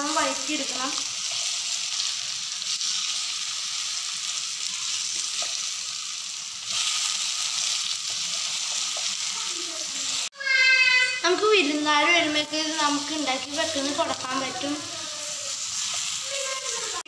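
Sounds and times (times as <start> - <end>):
banana slices sizzling in pan: 0.0 - 17.0.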